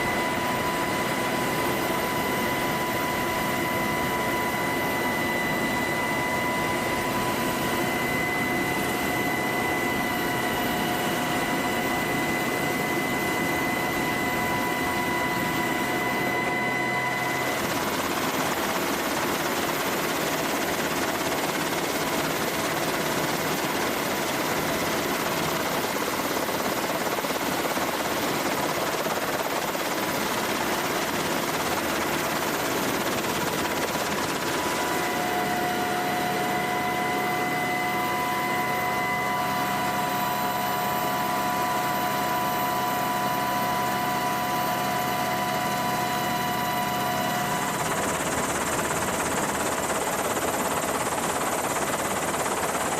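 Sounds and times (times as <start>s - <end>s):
helicopter running: 0.0s - 52.9s
high turbine whine: 0.0s - 52.9s.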